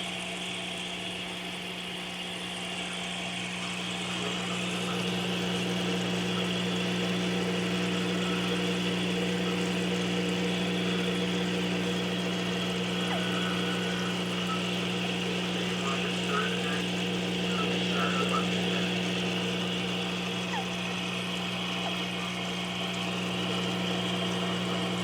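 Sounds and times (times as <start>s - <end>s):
electrical hum and whir: 0.0s - 25.0s.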